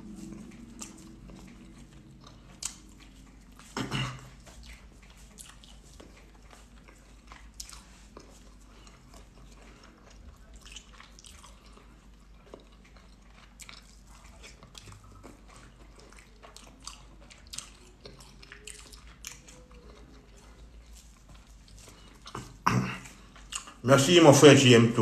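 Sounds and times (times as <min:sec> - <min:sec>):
person chewing food: 0:00.0 - 0:24.8.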